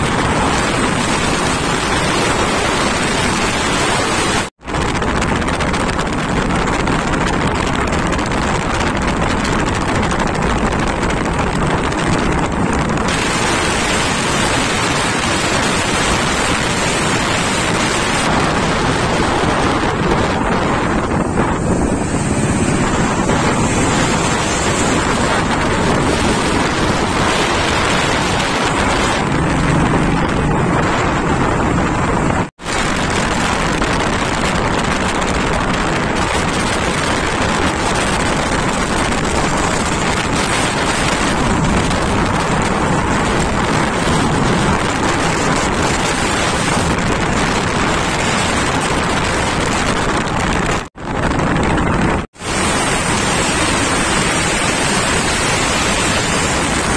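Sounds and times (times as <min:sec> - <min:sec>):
motorcycle road and engine noise: 0:00.0 - 0:56.9
wind noise on microphone: 0:00.0 - 0:56.9.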